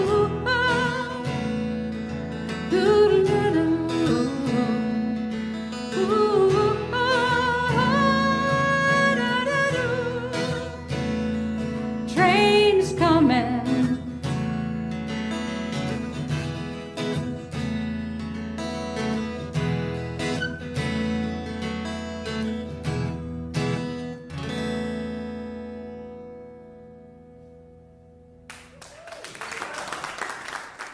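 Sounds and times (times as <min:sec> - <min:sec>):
strummed acoustic guitar: 0:00.0 - 0:28.5.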